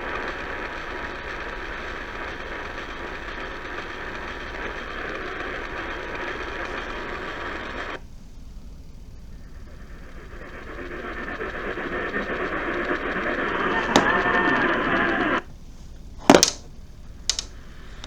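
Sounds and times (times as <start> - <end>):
radio reception hiss: 0.0 - 18.0.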